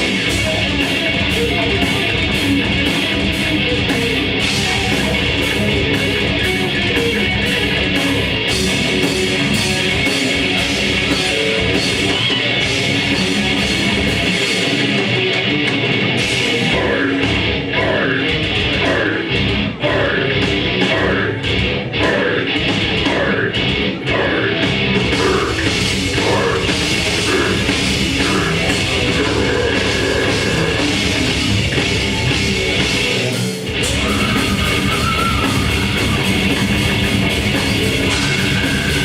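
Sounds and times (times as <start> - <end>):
distorted electric guitars: 0.0 - 39.0
fast drumming: 0.0 - 39.0.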